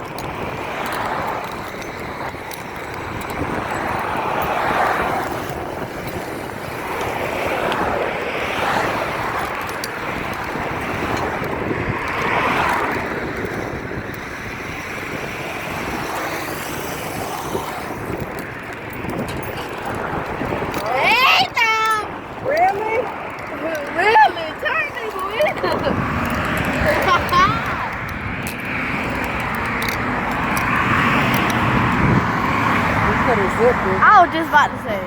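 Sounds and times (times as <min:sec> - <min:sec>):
vehicles passing: 0:00.0 - 0:35.0
wind noise on microphone: 0:00.0 - 0:35.0.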